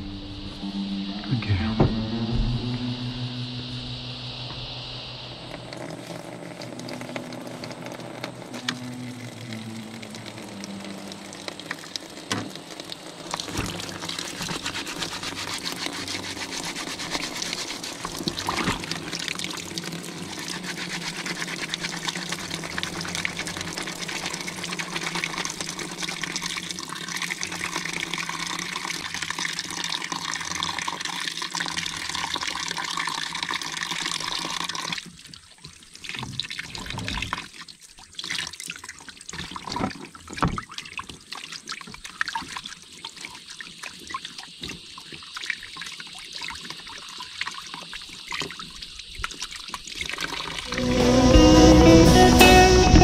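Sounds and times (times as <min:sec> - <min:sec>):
water running into plastic bucket: 0:05.5 - 0:50.8.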